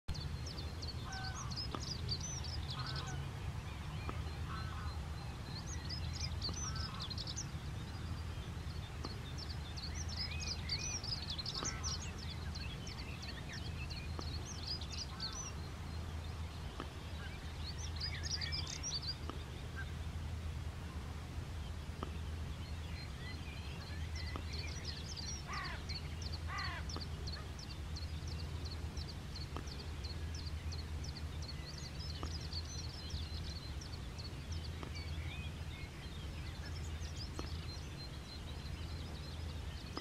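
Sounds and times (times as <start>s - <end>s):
birds twittering: 0.1s - 40.0s
short low bird calls: 0.5s - 8.0s, 8.6s - 16.0s, 20.8s - 40.0s.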